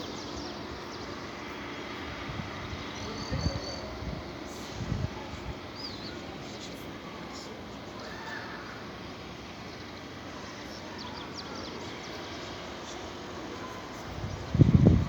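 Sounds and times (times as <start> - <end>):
low buffeting rumble: 0.0 - 8.0, 8.6 - 15.0
steady outdoor hiss: 0.0 - 15.0.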